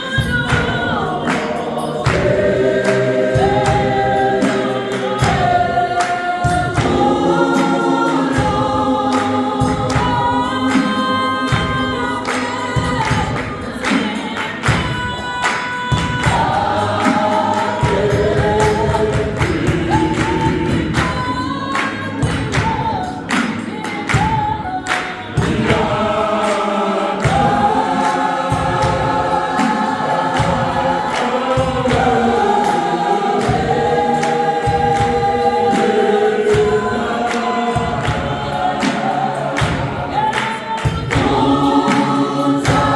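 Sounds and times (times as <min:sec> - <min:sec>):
gospel choir singing: 0:00.0 - 0:42.9
hand claps: 0:00.0 - 0:42.9.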